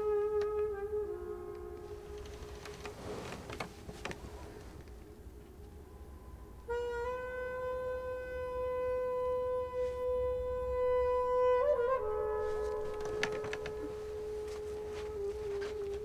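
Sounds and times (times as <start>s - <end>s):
wind instrument long note: 0.0s - 3.4s, 5.8s - 16.0s.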